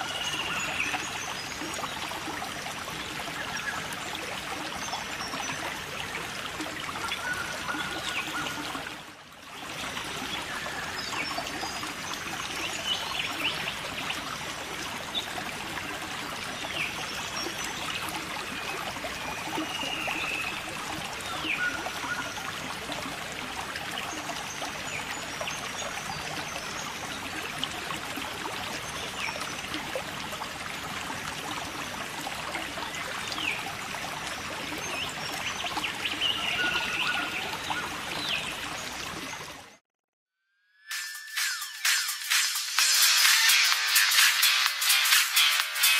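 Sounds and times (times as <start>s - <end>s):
water trickling and splashing: 0.0s - 39.8s.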